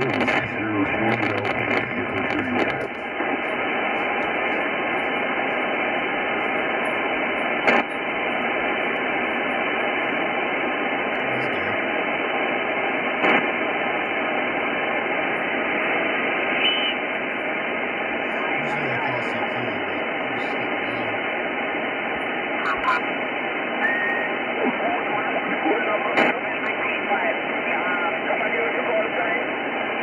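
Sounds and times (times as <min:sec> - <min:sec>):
radio receiver hiss: 0:00.0 - 0:30.0.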